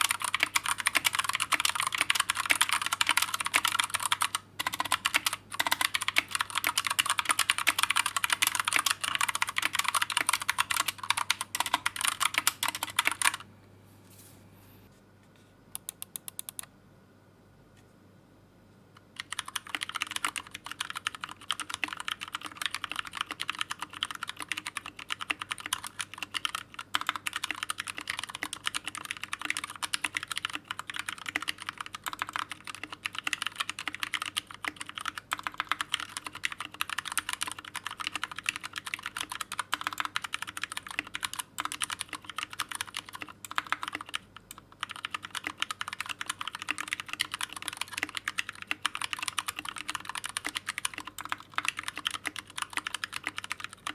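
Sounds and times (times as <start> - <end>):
mechanical keyboard typing: 0.0 - 13.4, 15.8 - 16.7, 19.2 - 53.9.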